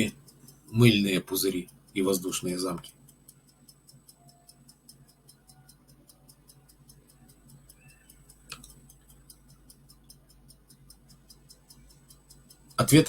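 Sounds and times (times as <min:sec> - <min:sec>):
fast even ticking: 0:00.0 - 0:13.0
low steady hum: 0:00.0 - 0:13.0
sharp click: 0:00.0 - 0:13.0.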